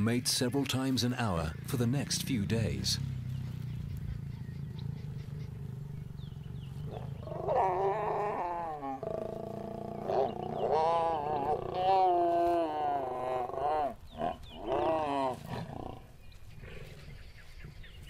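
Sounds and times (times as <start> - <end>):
lions growling: 1.5 - 17.3.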